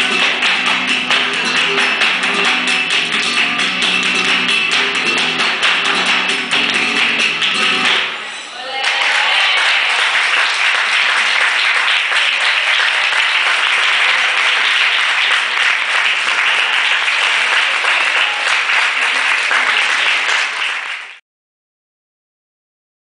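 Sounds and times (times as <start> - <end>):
audience applauding: 0.0 - 21.2.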